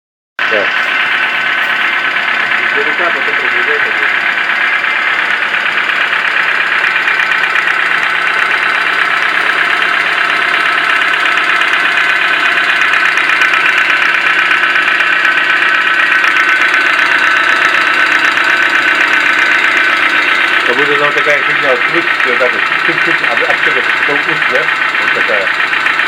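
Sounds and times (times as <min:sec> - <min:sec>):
car engine running with knock: 0:00.4 - 0:26.0.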